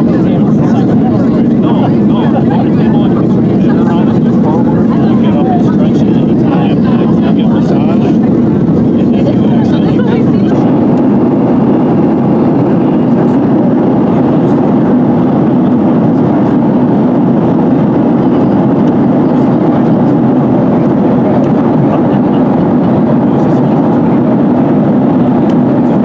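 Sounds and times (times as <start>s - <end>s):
airplane cabin engine and airflow rush: 0.0s - 26.0s.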